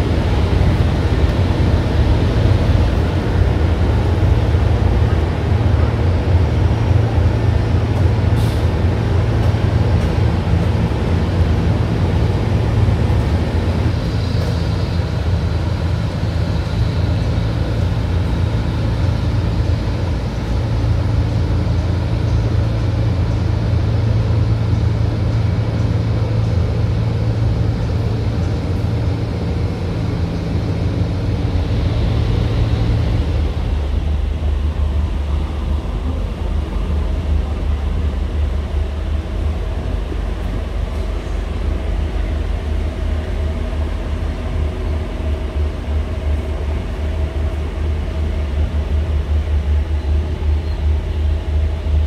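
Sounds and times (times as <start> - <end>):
large engine droning: 0.0 - 52.0.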